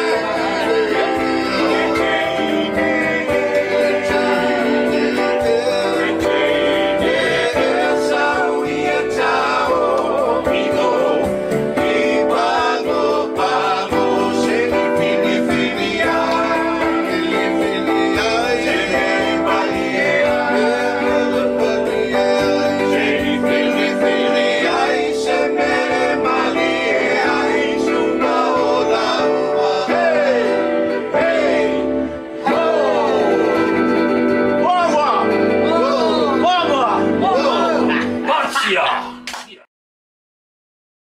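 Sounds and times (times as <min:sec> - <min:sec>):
person singing: 0:00.0 - 0:34.6, 0:35.2 - 0:39.7
instrumental accompaniment with held chords: 0:00.0 - 0:39.2.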